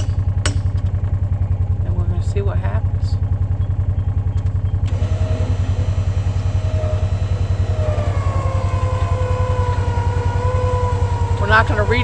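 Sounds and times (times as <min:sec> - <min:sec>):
engine idling throb: 0:00.0 - 0:12.0.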